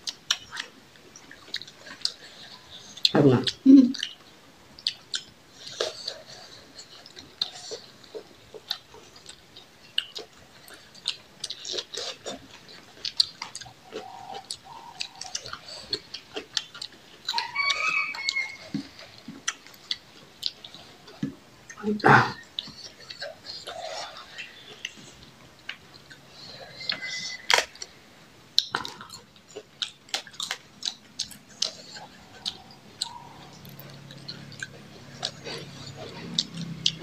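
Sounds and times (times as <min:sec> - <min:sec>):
people chewing with mouth smacks: 0:00.0 - 0:37.0.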